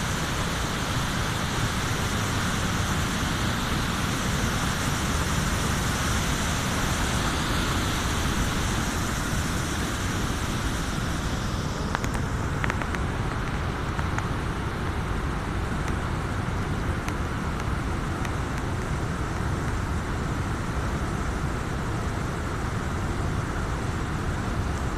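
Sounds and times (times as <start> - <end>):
river water pouring over a weir: 0.0 - 24.9.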